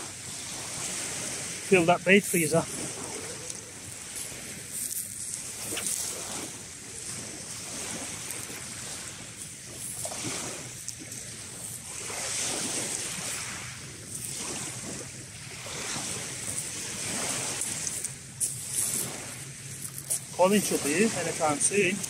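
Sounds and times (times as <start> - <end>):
small waves on shingle beach: 0.0 - 22.0.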